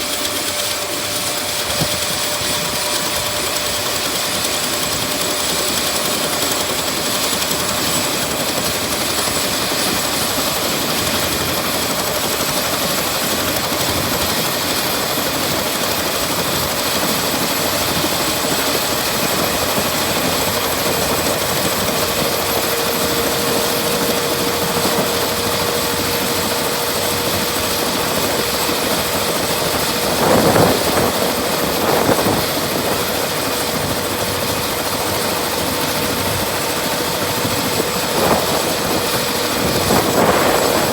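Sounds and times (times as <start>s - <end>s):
helicopter engine and rotor noise: 0.0s - 40.9s
helicopter turbine whine: 0.0s - 40.9s.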